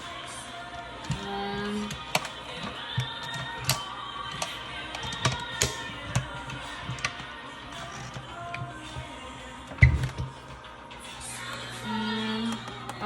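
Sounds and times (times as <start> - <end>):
background music with held tones: 0.0 - 13.0.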